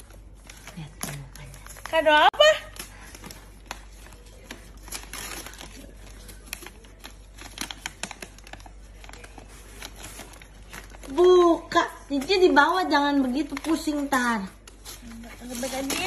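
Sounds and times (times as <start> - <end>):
paper bag crinkling and rustling: 0.0 - 16.0.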